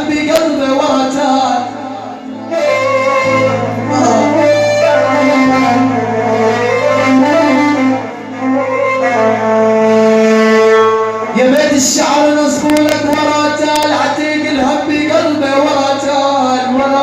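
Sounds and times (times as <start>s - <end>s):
melodic instrumental music: 0.1s - 17.0s.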